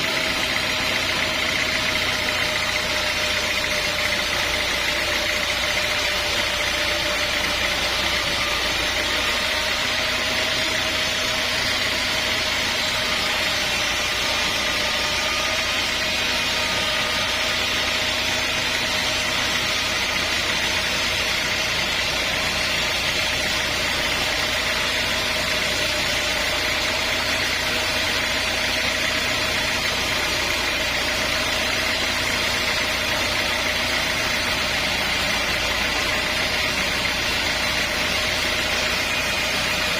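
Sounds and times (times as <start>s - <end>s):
high mechanical whine: 0.0s - 39.9s
sawmill machinery droning: 0.0s - 39.9s.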